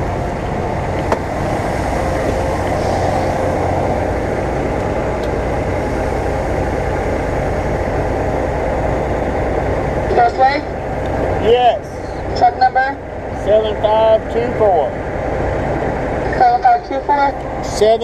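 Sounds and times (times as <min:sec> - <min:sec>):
truck diesel engine from cab: 0:00.0 - 0:18.0.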